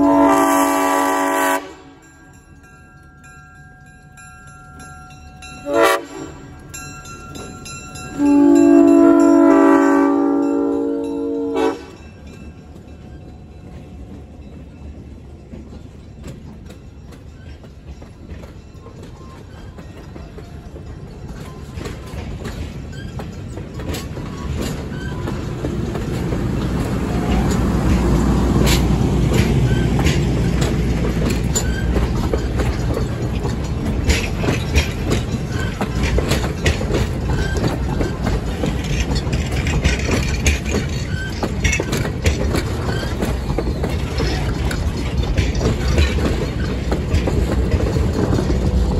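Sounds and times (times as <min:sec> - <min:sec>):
train wheels rumbling on rail: 0:00.0 - 0:48.9
wheels clicking over rail joints: 0:00.0 - 0:48.9.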